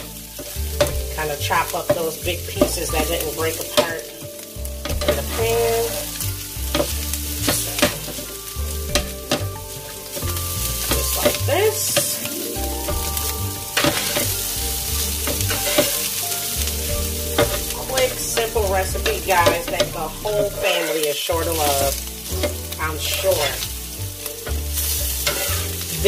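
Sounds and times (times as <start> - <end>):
food sizzling: 0.0 - 26.0
spatula scraping a pan: 0.0 - 26.0.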